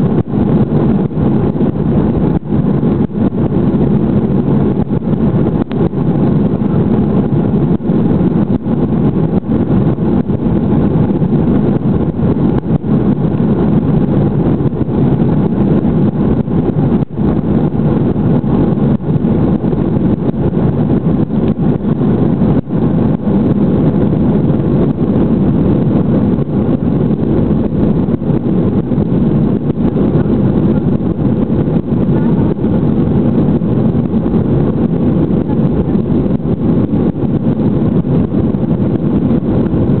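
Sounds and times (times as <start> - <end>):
jet engines droning: 0.0 - 40.0
rushing air: 0.0 - 40.0.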